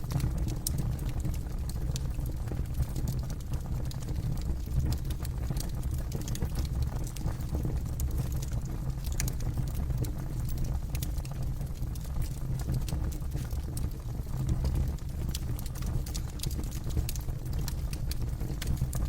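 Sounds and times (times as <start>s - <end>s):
campfire burning and crackling: 0.0s - 19.0s.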